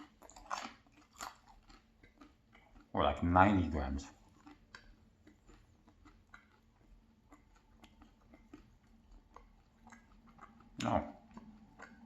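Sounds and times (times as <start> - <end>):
quiet chewing clicks: 0.0 - 12.0.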